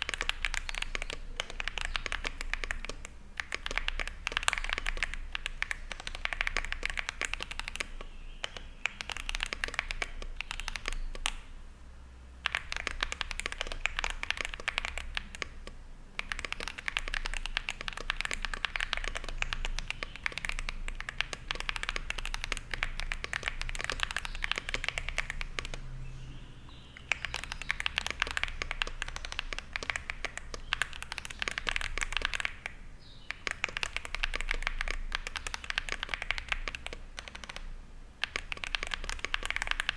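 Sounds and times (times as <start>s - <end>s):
mechanical keyboard keystrokes clacking: 0.0s - 11.4s, 12.4s - 25.8s, 27.0s - 39.9s.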